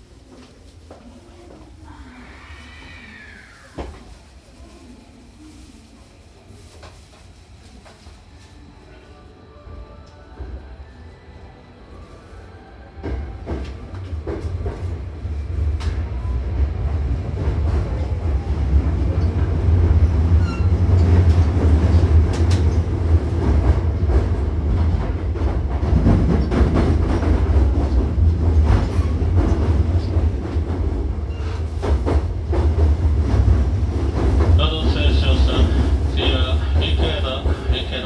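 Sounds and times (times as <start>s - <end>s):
train carriage low rumble: 0.0s - 38.0s.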